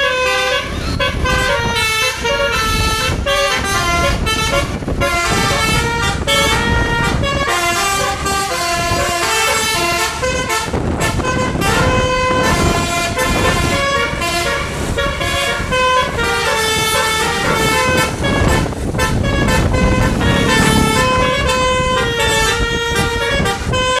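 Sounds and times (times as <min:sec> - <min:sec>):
bus engine rumble: 0:00.0 - 0:24.0
bus horn playing melody: 0:00.0 - 0:24.0.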